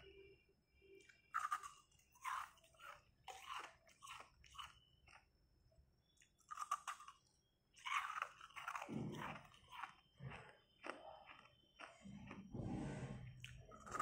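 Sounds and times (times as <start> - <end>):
chewing crunchy ice: 1.0 - 5.4, 6.2 - 12.5, 13.4 - 14.0.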